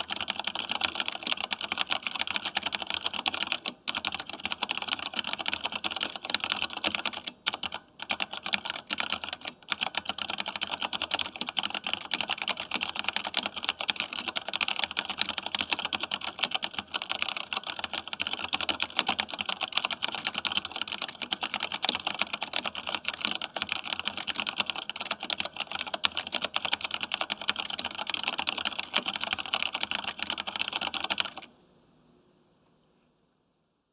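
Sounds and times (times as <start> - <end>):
fast keyboard typing: 0.0 - 31.5.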